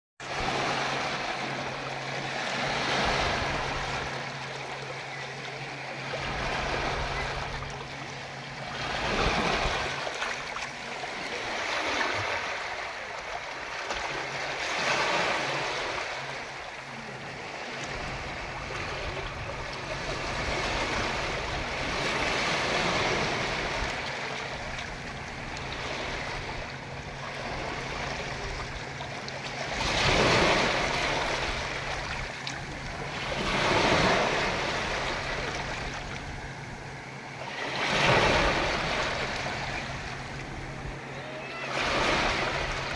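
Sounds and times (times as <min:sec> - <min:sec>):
ocean waves washing ashore: 0:00.2 - 0:42.9.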